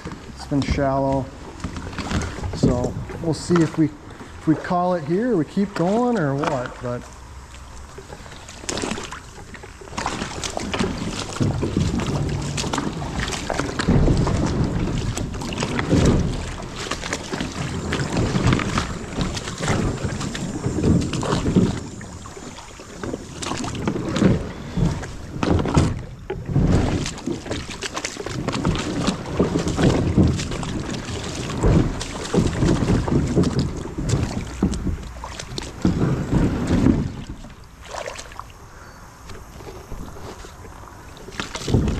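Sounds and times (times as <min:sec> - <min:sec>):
paddle splashing in water: 0:00.0 - 0:41.9.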